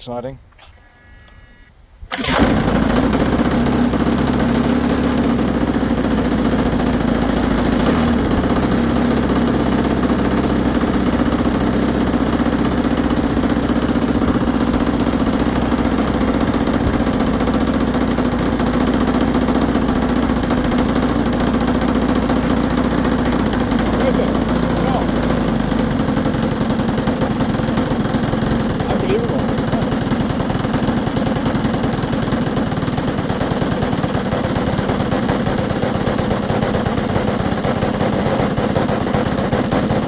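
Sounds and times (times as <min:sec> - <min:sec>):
model aircraft engine running: 0:02.1 - 0:40.0.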